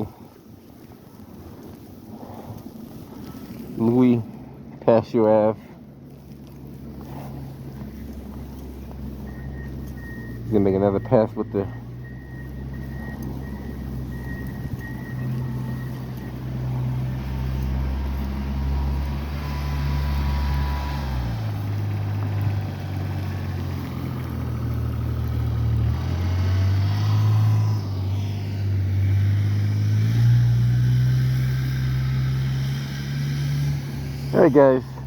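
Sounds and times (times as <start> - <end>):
snow-clearing vehicle engine running: 0.0 - 35.0.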